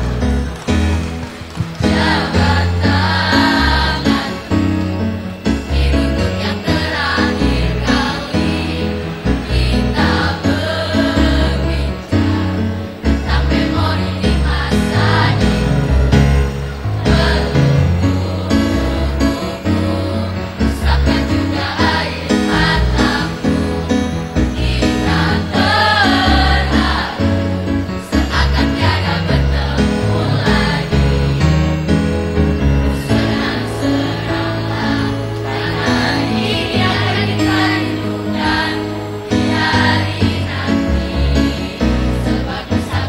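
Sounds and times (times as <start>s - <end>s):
children's choir singing: 0.0s - 43.0s
instrumental accompaniment: 0.0s - 43.0s.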